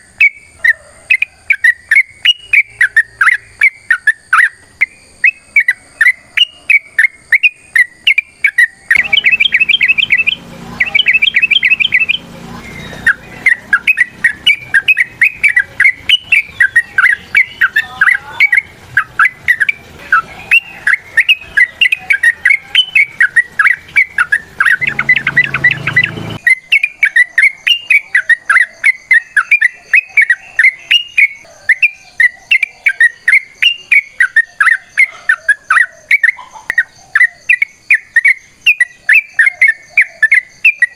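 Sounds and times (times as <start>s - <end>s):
bird chattering song: 0.0s - 40.9s
bird trilled phrases: 0.2s - 40.9s.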